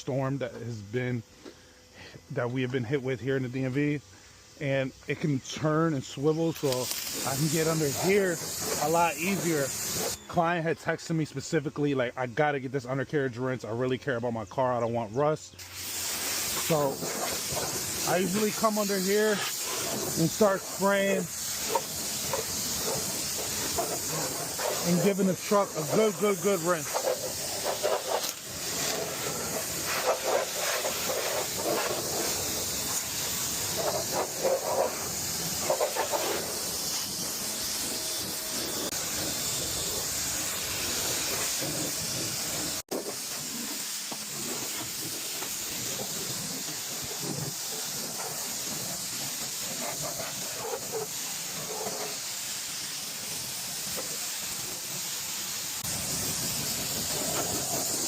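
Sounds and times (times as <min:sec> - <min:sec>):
pressure washer spray hissing: 0:01.9 - 0:11.5, 0:15.5 - 0:58.0.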